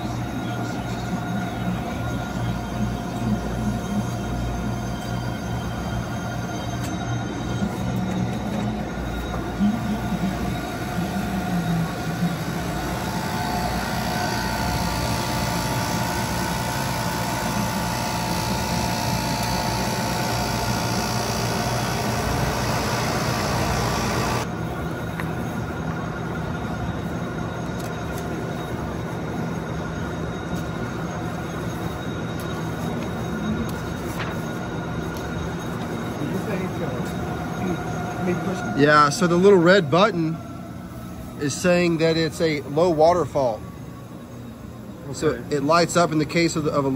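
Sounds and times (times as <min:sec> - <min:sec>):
refrigeration chiller hum: 0:00.0 - 0:46.9.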